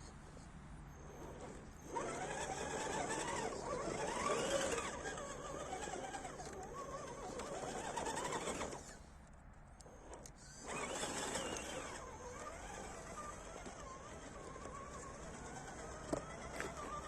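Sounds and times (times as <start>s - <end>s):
electric motor whining: 1.0s - 9.0s, 9.8s - 17.0s.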